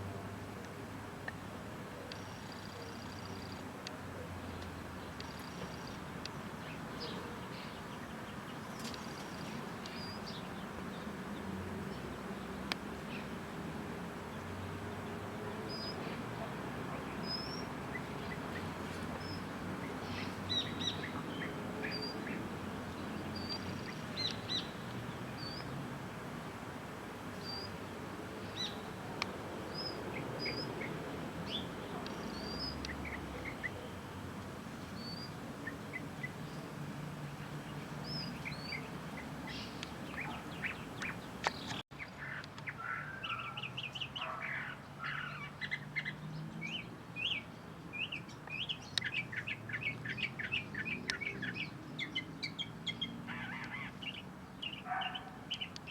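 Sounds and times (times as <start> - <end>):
small birds chirping: 1.2 - 55.9.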